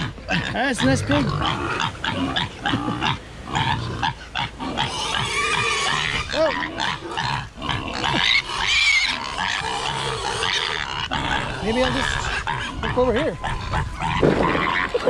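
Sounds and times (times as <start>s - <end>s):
piglets squealing: 0.0s - 15.0s
pigs grunting: 0.0s - 15.0s.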